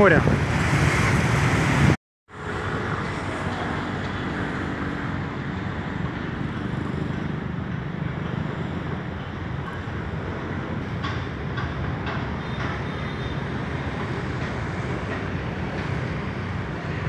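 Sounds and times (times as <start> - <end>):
distant city traffic hum: 0.0 - 17.0
motorbikes and cars passing: 0.0 - 17.0.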